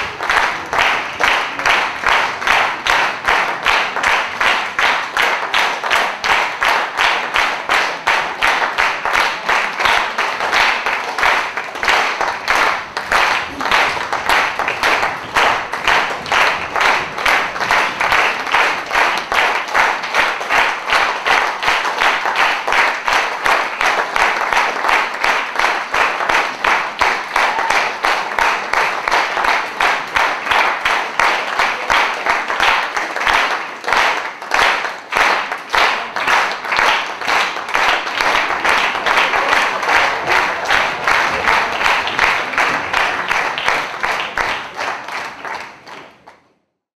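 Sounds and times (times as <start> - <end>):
audience clapping in rhythm: 0.0 - 46.9.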